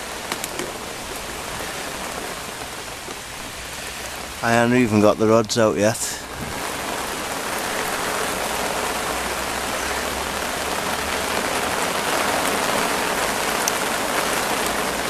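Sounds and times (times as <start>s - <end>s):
heavy rain on water: 0.0s - 15.0s.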